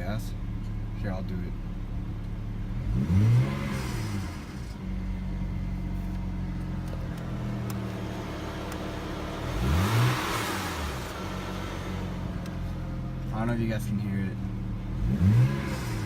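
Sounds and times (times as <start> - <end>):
car engine idling and revving: 0.0 - 16.0
engine rattling: 0.0 - 16.0.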